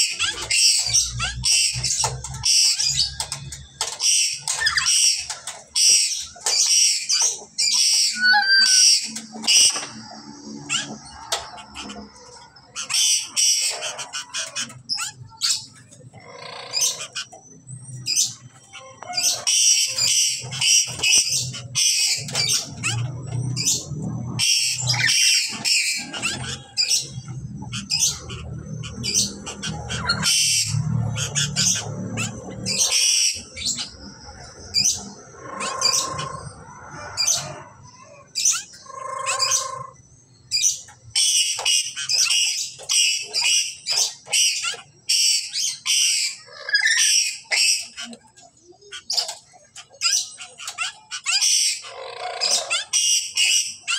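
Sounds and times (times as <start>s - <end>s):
parrots screeching: 0.0s - 53.9s.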